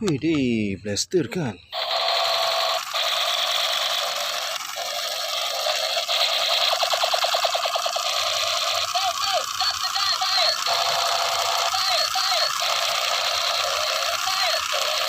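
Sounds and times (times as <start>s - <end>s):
toy blaster buzzing hiss: 1.7s - 15.0s.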